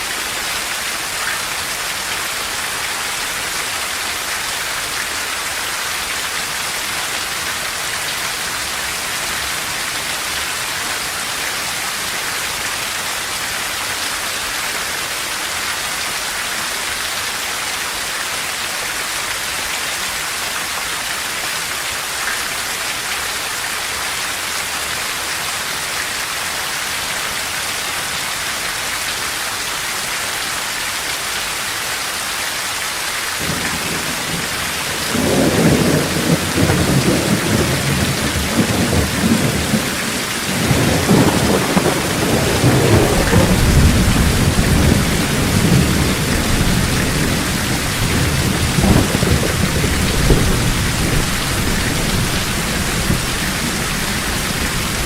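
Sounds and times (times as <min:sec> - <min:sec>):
heavy rain on foliage: 0:00.0 - 0:55.0.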